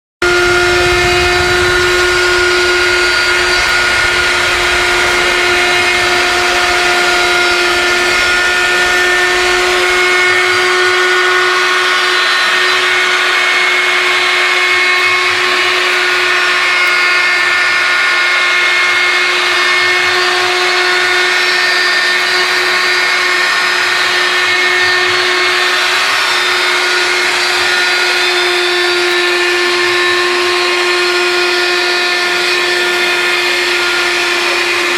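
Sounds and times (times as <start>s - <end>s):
low rumble: 0.2s - 31.8s
router spindle motor whining: 0.2s - 34.9s.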